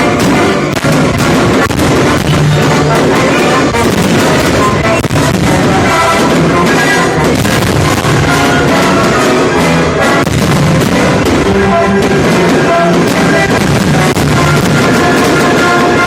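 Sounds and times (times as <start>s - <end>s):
firework bangs and crackles: 0.0s - 16.0s
loud music: 0.0s - 16.0s.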